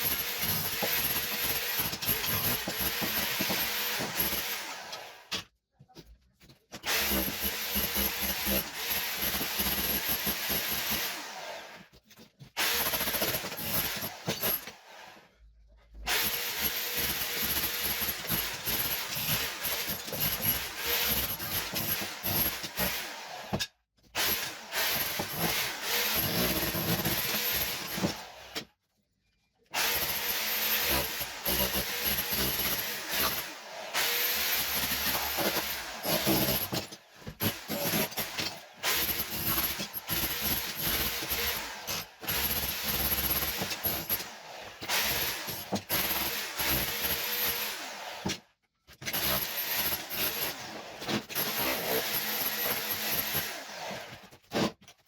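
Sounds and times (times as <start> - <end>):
power tool removing wall tiles: 0.0 - 5.4, 6.7 - 11.9, 12.6 - 15.2, 16.0 - 28.7, 29.7 - 55.0.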